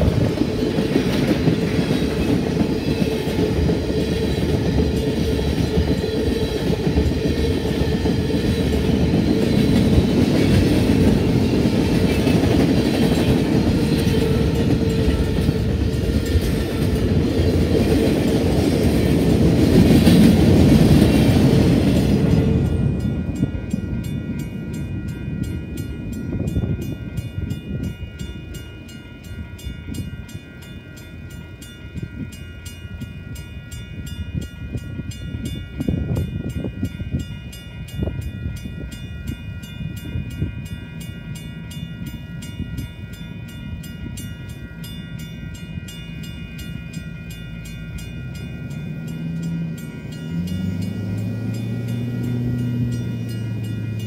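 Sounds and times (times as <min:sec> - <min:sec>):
freight train rumble: 0:00.0 - 0:54.0
railroad crossing bells ringing: 0:00.0 - 0:54.0.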